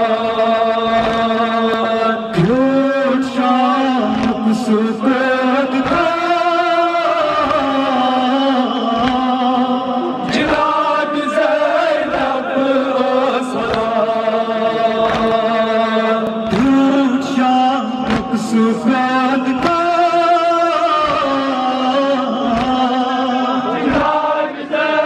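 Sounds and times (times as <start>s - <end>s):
men chanting into microphones: 0.0s - 25.0s.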